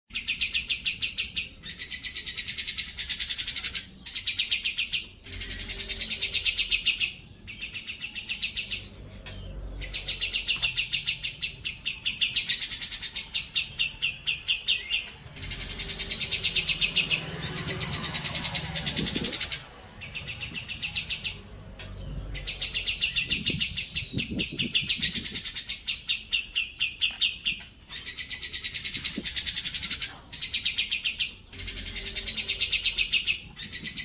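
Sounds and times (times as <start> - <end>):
bird trilling song: 0.1 - 34.0.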